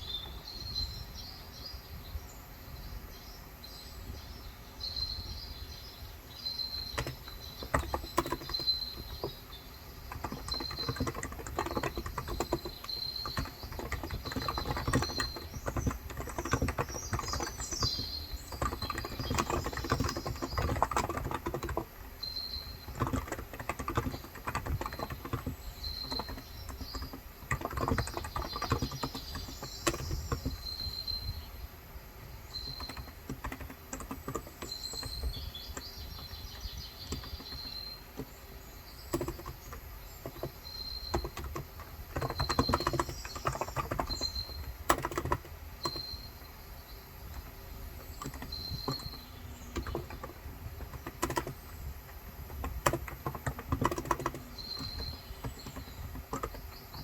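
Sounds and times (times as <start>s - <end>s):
typing on a keyboard: 6.7s - 31.5s, 32.5s - 57.0s.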